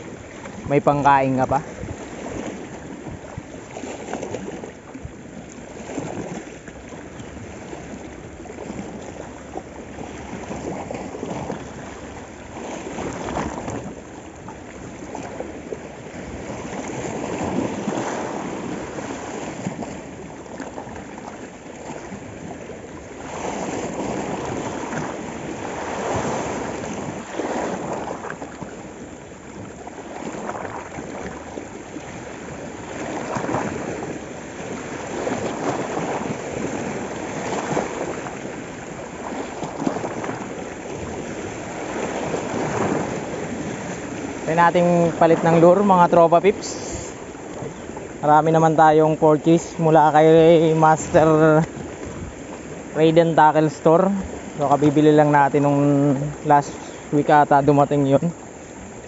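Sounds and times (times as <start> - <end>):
sea waves washing against rocks: 0.0 - 59.0.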